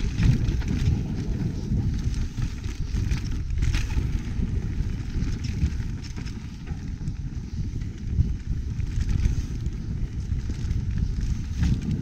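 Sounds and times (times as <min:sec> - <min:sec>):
bike clicks and rattles: 0:00.0 - 0:12.0
tyre and wind rumble: 0:00.0 - 0:12.0.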